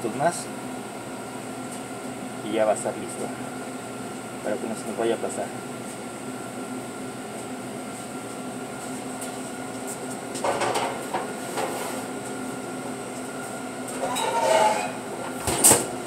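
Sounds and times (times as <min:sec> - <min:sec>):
bakery equipment and fans humming: 0:00.0 - 0:16.0.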